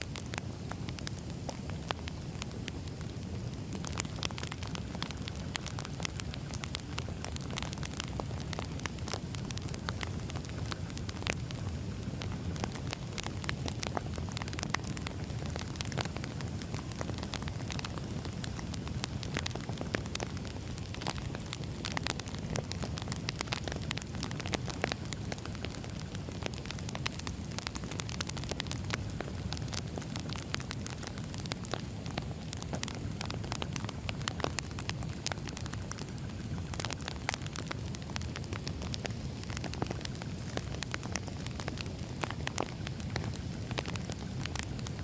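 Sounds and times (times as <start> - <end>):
logs crackling and popping: 0.0 - 45.0
wood fire rumbling: 0.0 - 45.0.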